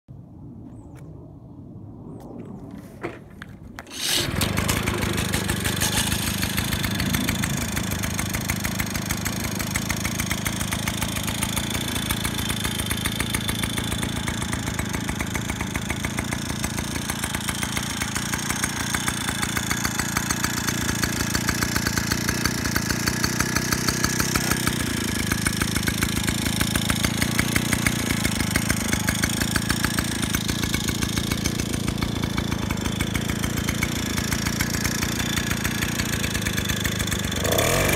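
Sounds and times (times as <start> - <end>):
moped engine idling: 3.9 - 37.9.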